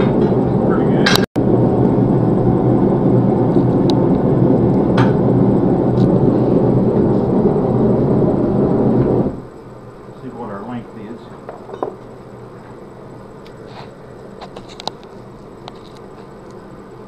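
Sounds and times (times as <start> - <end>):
forge blower running: 0.0 - 17.0.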